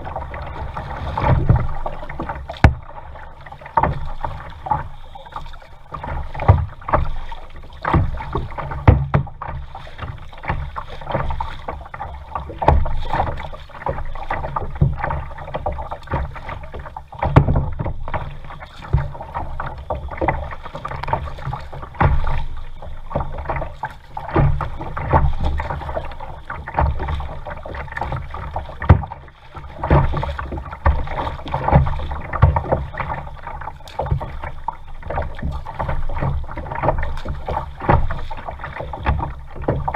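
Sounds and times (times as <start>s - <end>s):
paddle knocking against hull: 0.0s - 39.9s
water splashing from paddle strokes: 0.0s - 39.9s.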